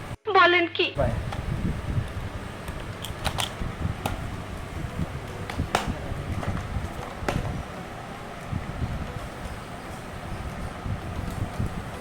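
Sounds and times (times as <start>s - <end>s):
low uneven rumble: 1.0s - 12.0s.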